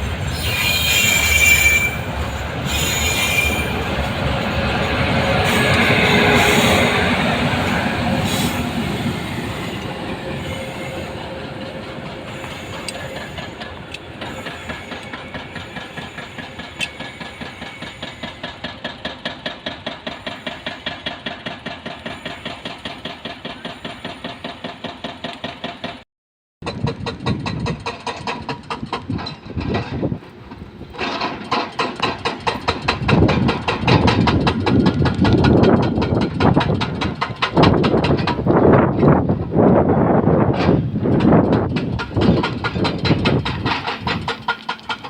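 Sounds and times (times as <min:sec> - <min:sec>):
train wagons clickety-clack: 0:00.0 - 0:26.0, 0:26.6 - 0:45.0.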